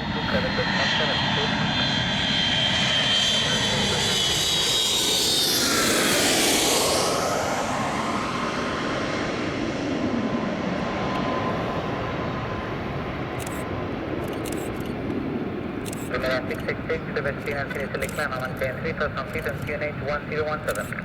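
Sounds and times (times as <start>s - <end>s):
jet engines passing: 0.0s - 21.0s.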